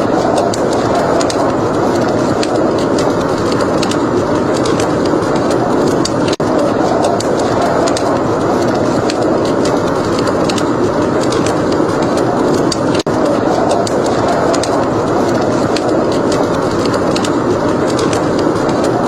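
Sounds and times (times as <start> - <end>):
fire roar: 0.0 - 19.0
wood fire crackling: 0.0 - 19.0.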